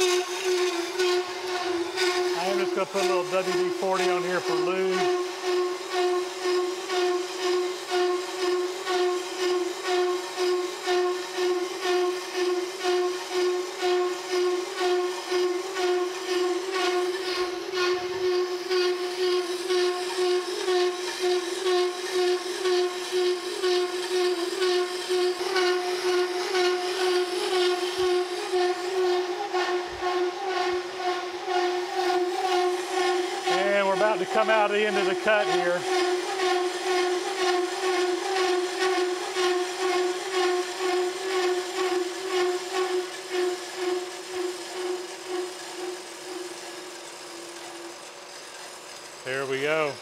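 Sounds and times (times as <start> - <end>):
milling saw cutting metal whistling: 0.0 - 50.0.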